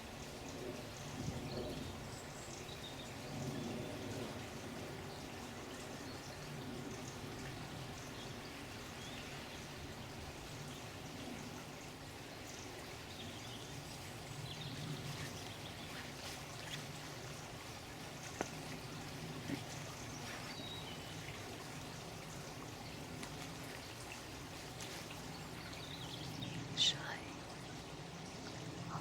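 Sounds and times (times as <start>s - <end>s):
running water trickling: 0.0s - 29.0s.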